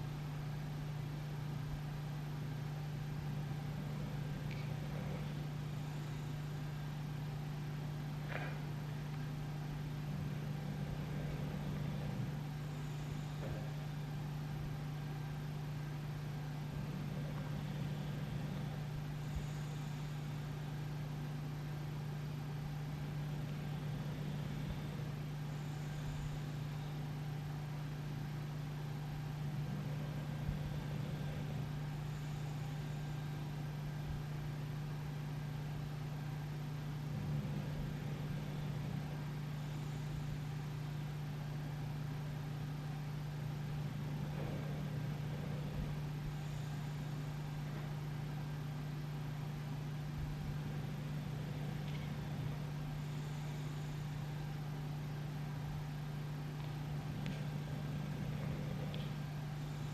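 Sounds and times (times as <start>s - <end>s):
steady low hum: 0.0s - 59.9s
dog breathing softly: 0.2s - 59.9s.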